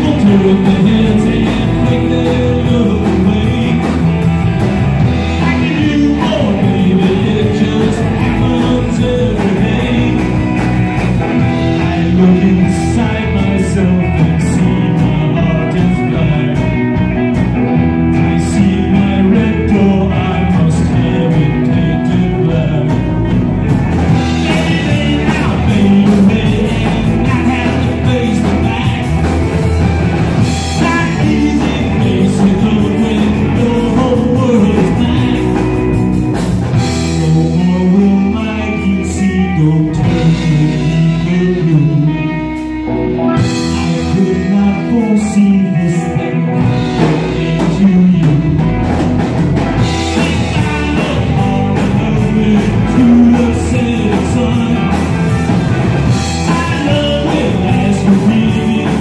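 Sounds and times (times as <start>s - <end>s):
drum kit: 0.0s - 59.0s
electric bass: 0.0s - 59.0s
electric guitars: 0.0s - 59.0s
lead vocal singing: 0.0s - 59.0s.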